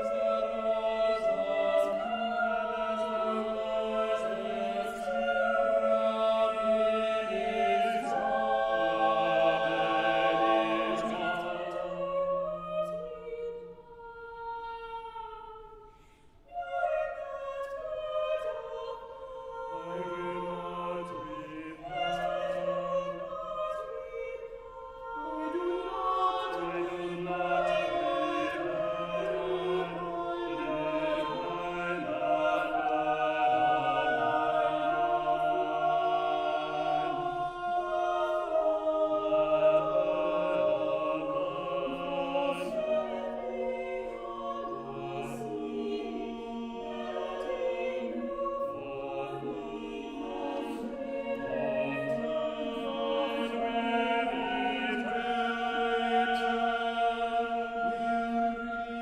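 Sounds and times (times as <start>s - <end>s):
church choir singing: 0.0s - 59.0s.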